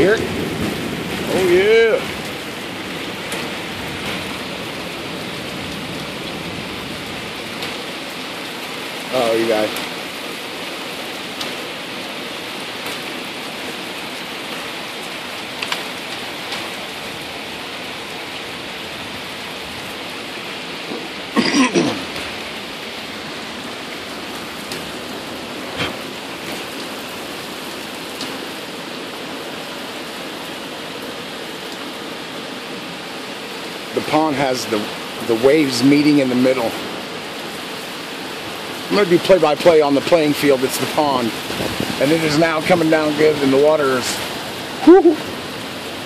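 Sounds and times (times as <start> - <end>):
heavy rain pouring: 0.0 - 46.0
raindrops ticking close by: 0.0 - 46.0.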